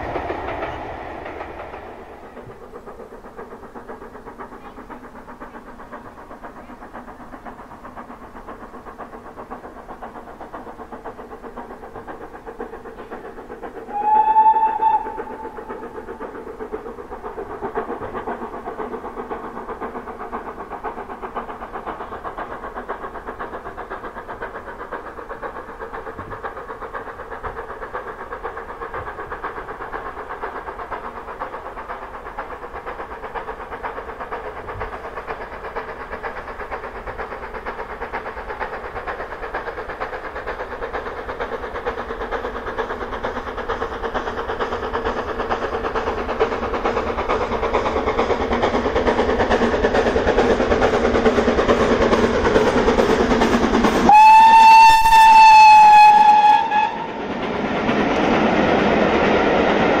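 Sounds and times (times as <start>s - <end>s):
steam locomotive exhaust beat: 0.0s - 60.0s.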